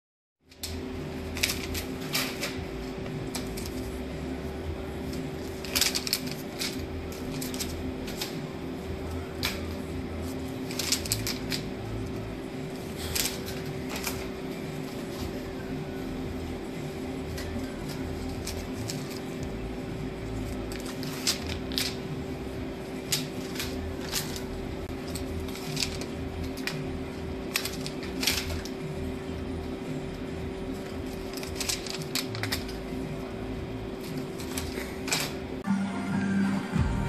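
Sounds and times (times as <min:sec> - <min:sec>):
electrical hum: 0:00.4 - 0:37.0
paper crinkling and rustling: 0:00.5 - 0:19.6, 0:20.4 - 0:29.2, 0:30.7 - 0:33.3, 0:34.0 - 0:35.4.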